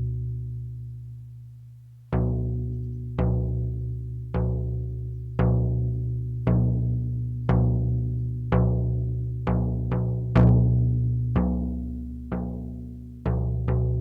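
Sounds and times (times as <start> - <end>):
deep drum beating: 2.1 - 14.0.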